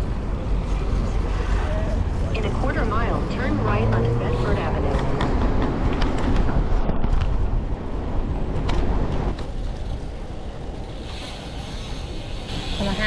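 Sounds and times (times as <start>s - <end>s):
wind buffeting microphone: 0.0s - 11.2s
street noise: 0.0s - 13.0s.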